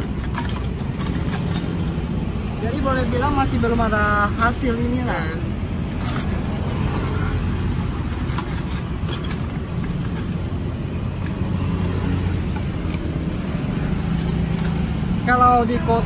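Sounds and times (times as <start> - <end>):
engine rumbling: 0.0 - 16.0.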